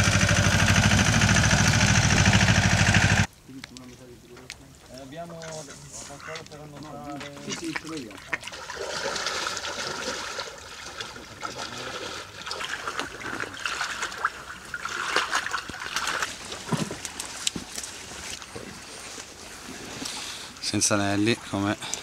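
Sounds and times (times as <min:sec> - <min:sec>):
people wading through water: 0:00.0 - 0:22.0.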